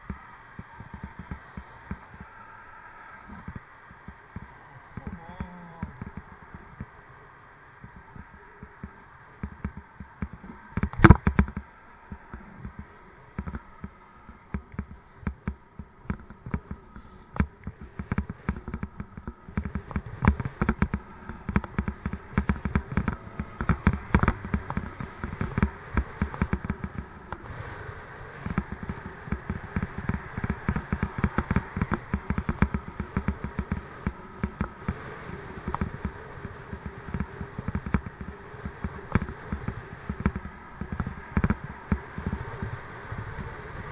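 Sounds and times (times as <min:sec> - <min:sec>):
bicycle rattling over rough tarmac: 0:00.0 - 0:43.9.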